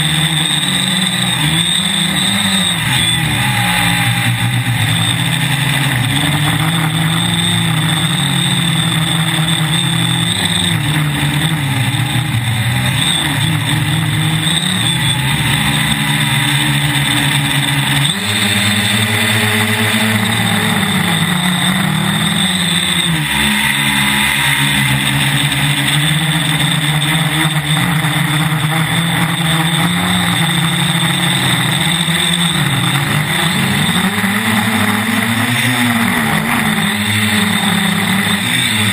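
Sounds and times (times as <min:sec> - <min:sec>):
drone motors and propellers buzzing: 0:00.0 - 0:38.9.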